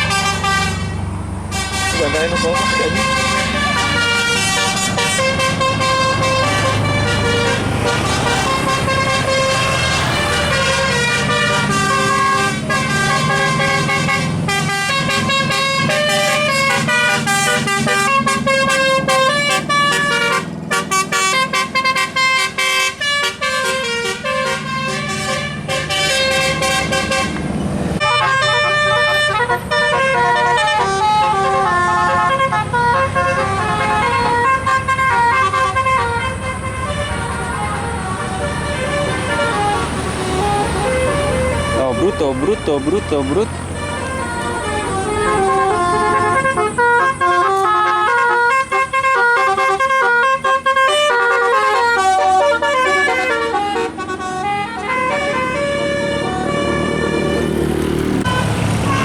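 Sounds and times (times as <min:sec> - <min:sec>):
musical air horns playing melody: 0:00.0 - 0:59.0
vehicle engine running: 0:00.0 - 0:59.0.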